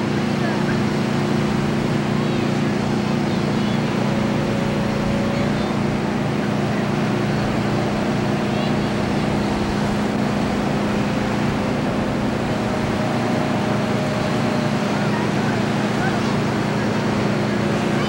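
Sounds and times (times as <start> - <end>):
constant low hum: 0.0 - 18.0
wind: 0.0 - 18.0.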